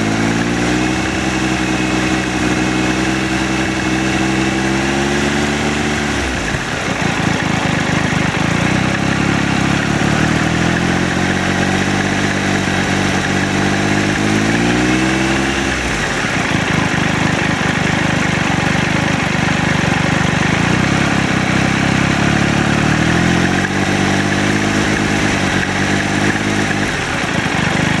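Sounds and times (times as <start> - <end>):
engine rattling noise: 0.0 - 28.0
motorcycle engine revving: 0.0 - 28.0.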